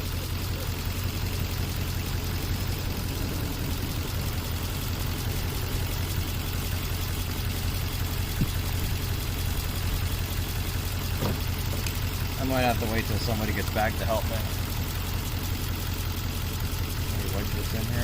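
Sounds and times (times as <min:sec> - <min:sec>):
misfiring engine idling: 0:00.0 - 0:18.0.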